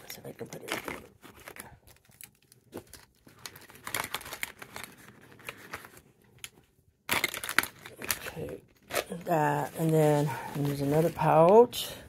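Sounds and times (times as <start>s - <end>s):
plastic pouch rustling: 0.4s - 11.9s.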